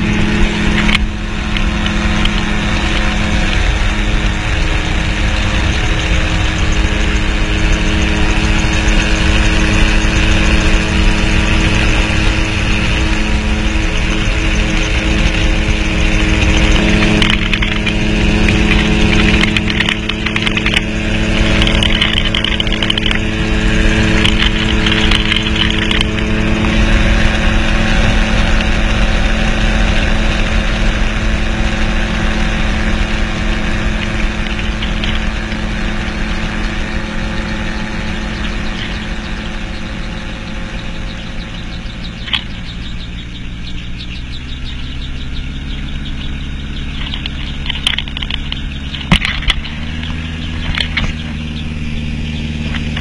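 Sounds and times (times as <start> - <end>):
engine and propeller running: 0.0 - 53.0
wind noise: 0.0 - 53.0.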